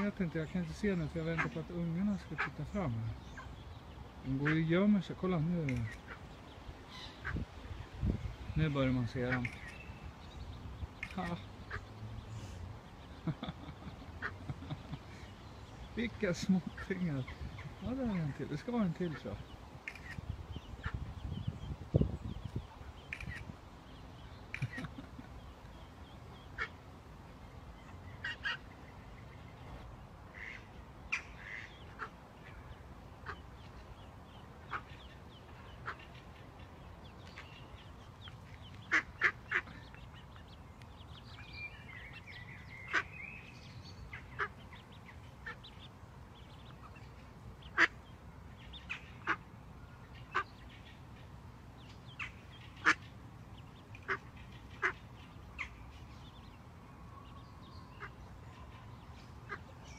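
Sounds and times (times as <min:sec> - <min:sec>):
ducks calling: 0:00.0 - 0:21.6, 0:22.5 - 0:56.6, 0:57.2 - 0:59.9.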